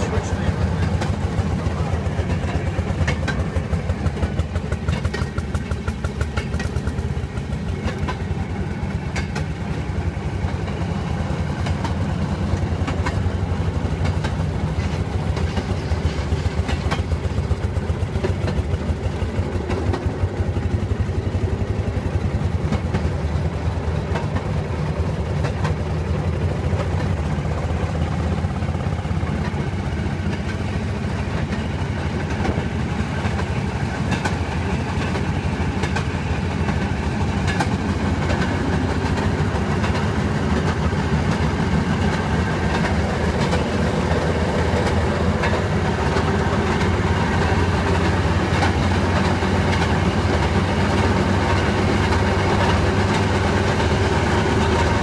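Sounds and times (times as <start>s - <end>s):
rail vehicle engine firing: 0.0s - 55.0s
wheels clicking on rails: 0.0s - 55.0s.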